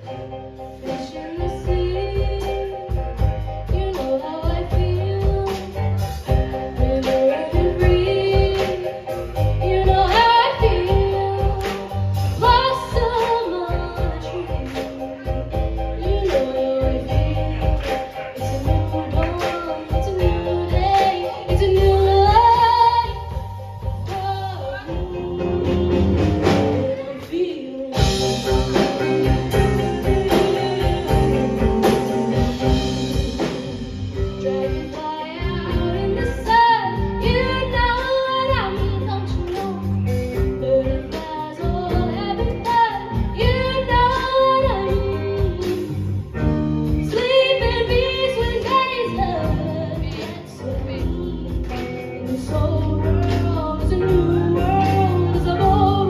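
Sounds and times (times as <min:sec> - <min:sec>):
live rock band playing: 0:00.0 - 0:56.0
woman singing: 0:00.0 - 0:56.0.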